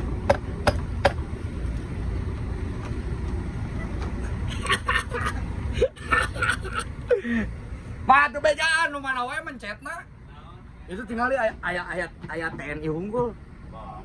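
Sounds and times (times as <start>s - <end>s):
diesel bus engine idling: 0.0s - 14.0s.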